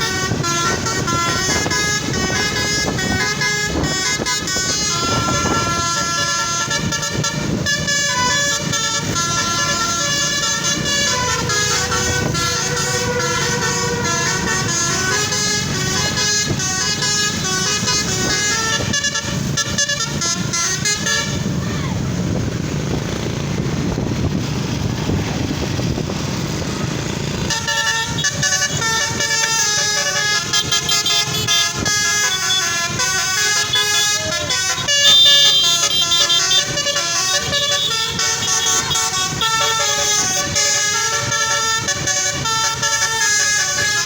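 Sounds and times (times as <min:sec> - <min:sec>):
bus horn playing a fast melody: 0:00.0 - 0:22.4, 0:26.8 - 0:44.0.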